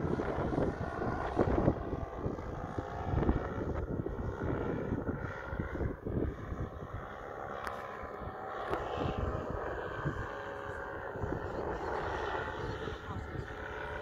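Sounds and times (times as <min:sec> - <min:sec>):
paramotor engine running: 0:00.0 - 0:14.0
wind rumbling on microphone: 0:00.0 - 0:14.0.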